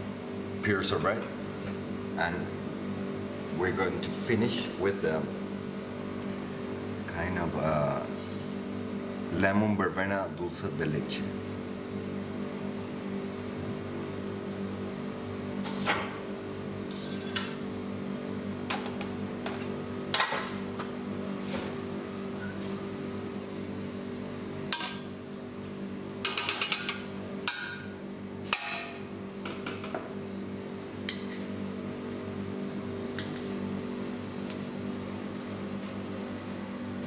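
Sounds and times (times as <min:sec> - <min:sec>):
kitchen equipment hum: 0:00.0 - 0:37.0.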